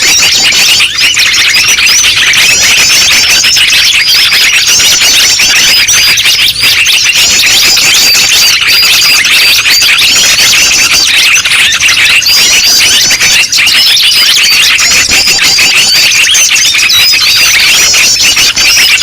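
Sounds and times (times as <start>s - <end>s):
songbirds chirping and twittering: 0.0s - 19.0s.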